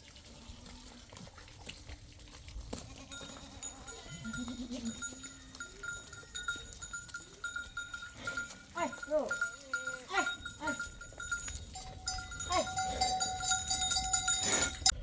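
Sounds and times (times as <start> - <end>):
flock bleating: 2.8 - 14.9
livestock bell ringing: 3.0 - 15.0.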